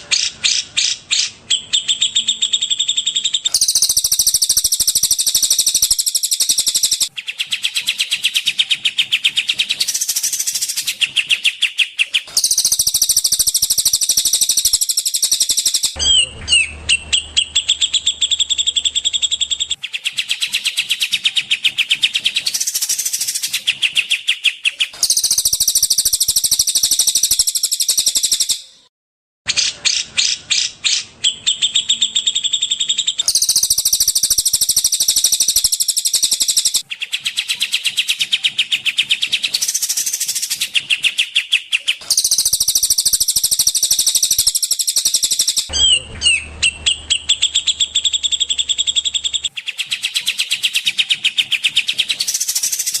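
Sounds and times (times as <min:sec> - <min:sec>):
songbird trills and whistles: 0:00.1 - 0:28.8, 0:29.5 - 0:53.0.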